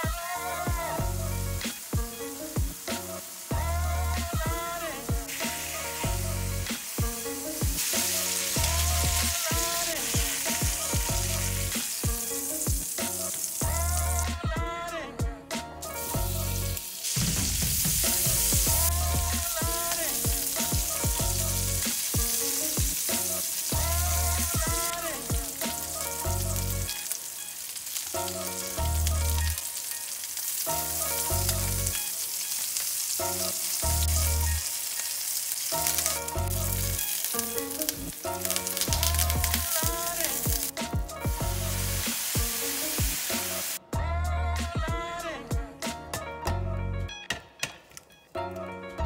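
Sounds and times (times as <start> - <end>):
vegetables sizzling in a frying pan: 0.0 - 14.5, 16.0 - 43.8.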